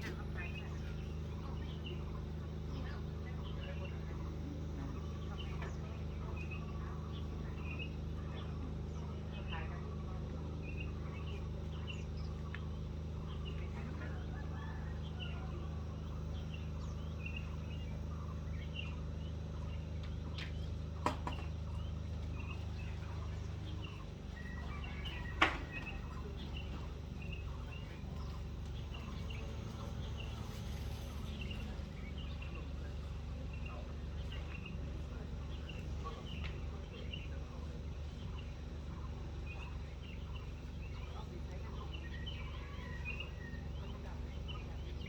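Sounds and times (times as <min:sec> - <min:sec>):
bird chirps: 0:00.0 - 0:45.0
steady low hum: 0:00.0 - 0:45.0.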